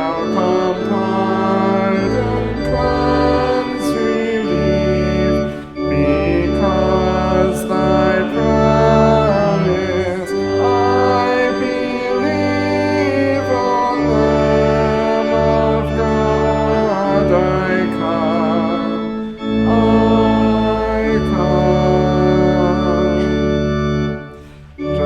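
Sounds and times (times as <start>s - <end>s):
church organ playing hymn: 0.0s - 25.0s
congregation singing: 0.0s - 25.0s.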